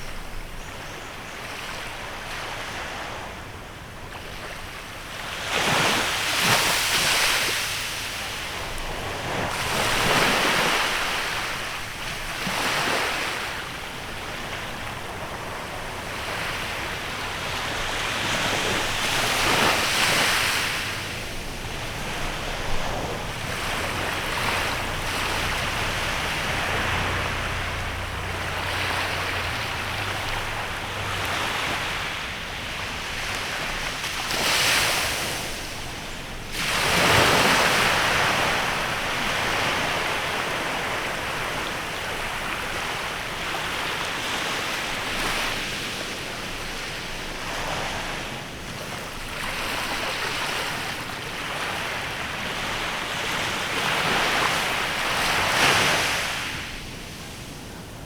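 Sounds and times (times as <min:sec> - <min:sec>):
waves washing onto beach: 0:00.0 - 0:58.0.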